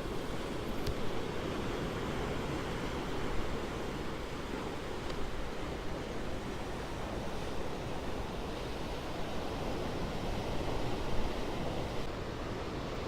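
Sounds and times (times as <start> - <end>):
ocean surf washing ashore: 0.0 - 13.0.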